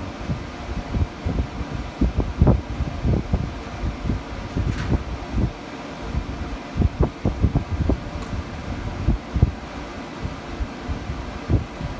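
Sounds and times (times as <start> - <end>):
wind buffeting microphone: 0.1 - 11.9.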